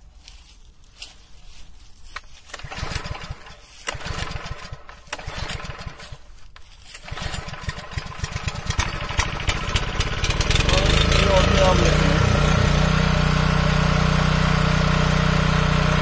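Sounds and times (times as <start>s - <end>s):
tiller engine pull-started: 2.2s - 16.0s.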